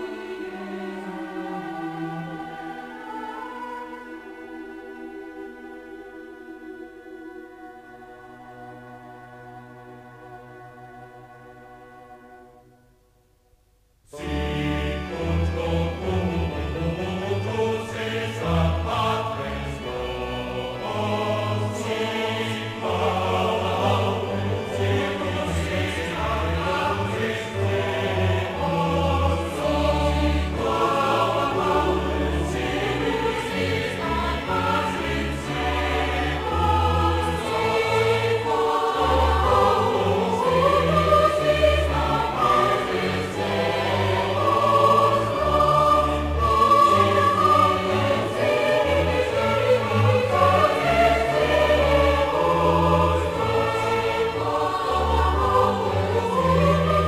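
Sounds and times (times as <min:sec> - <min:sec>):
choir singing: 0:00.0 - 0:12.8, 0:14.1 - 0:57.0.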